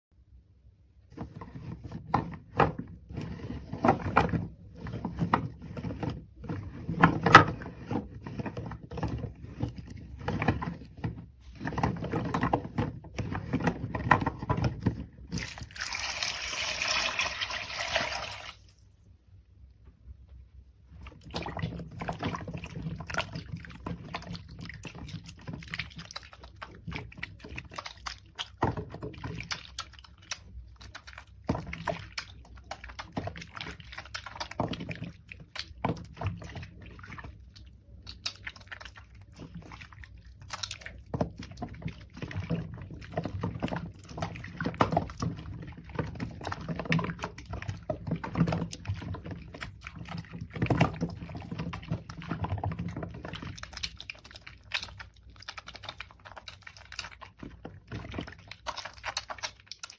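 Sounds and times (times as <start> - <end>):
wet soap squelching: 0.2 - 59.9.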